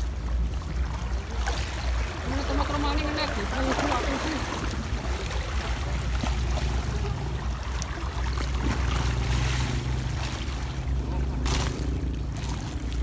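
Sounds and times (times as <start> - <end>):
water washing against rocks: 1.0 - 13.0.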